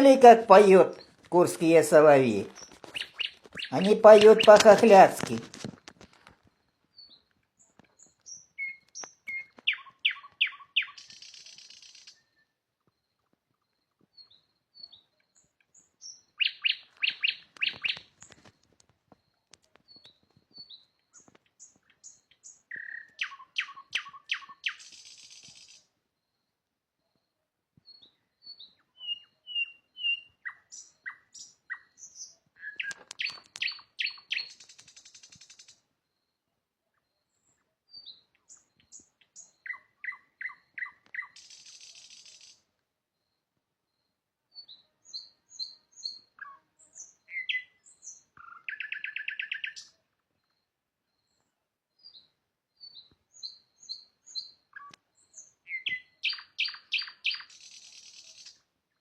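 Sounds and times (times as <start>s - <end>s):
nightingale singing: 0.0s - 5.5s, 6.4s - 59.0s.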